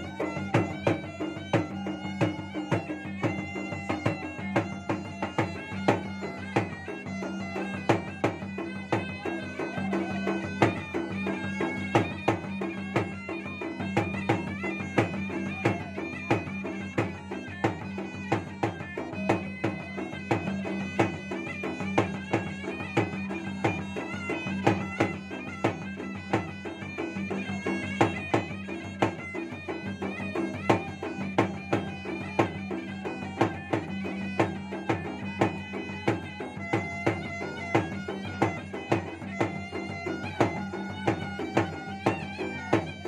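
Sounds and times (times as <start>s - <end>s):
hand and stick drumming: 0.0s - 43.0s
shrill reed pipe melody: 0.0s - 43.0s.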